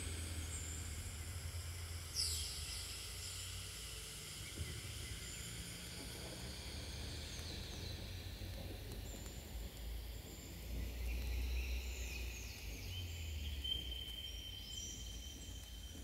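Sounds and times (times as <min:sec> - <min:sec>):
low bass hum: 0:00.0 - 0:16.0
steady hiss: 0:00.0 - 0:16.0.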